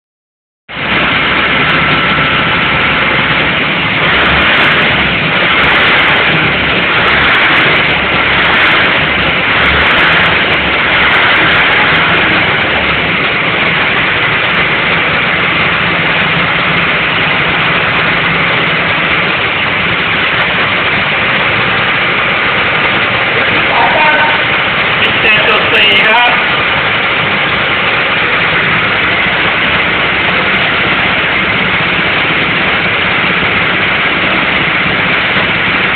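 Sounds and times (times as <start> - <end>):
large machine running: 0.7 - 35.9.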